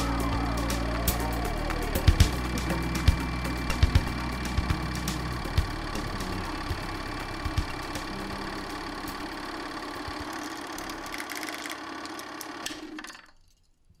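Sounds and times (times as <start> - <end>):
film projector whirring: 0.0 - 13.3.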